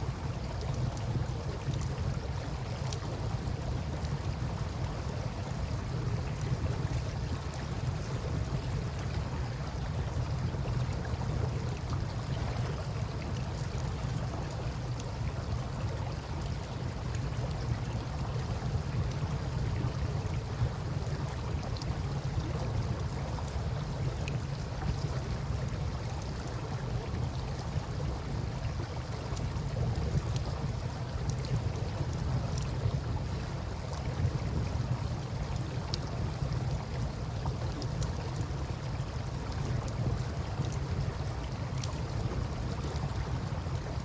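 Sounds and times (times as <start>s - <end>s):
river water flowing: 0.0s - 44.0s
campfire crackling: 0.2s - 44.0s.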